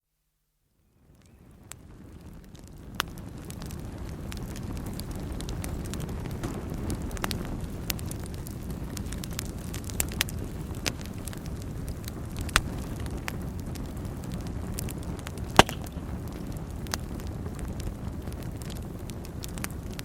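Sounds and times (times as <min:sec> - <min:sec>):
wood fire crackling: 0:00.9 - 0:20.0
fire popping: 0:01.0 - 0:20.0.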